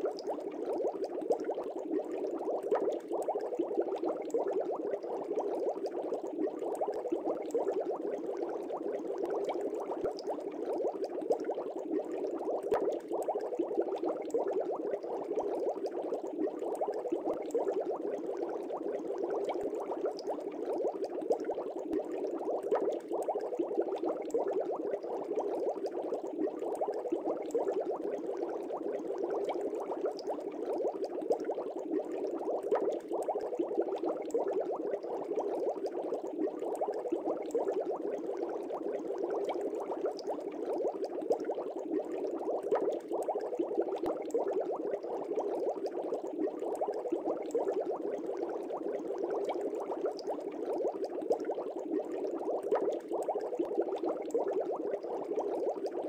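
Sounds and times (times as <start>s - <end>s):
water bubbling: 0.0s - 56.0s.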